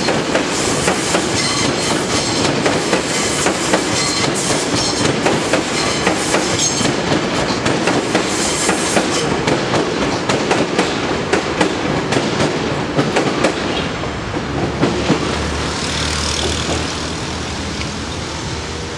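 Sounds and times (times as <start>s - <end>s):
train wheels clicking over rail joints: 0.0s - 18.0s
train rumble: 0.0s - 18.9s.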